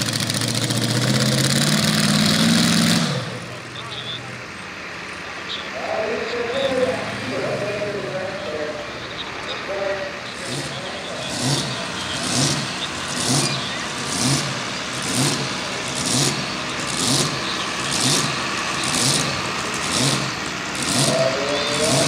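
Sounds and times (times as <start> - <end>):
supercharged engine revving: 0.0 - 4.6, 5.8 - 22.0.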